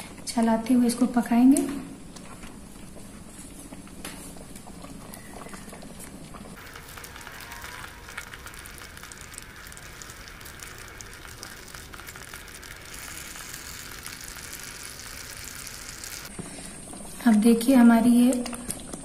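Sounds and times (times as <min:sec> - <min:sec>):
chutney bubbling: 0:01.6 - 0:19.0.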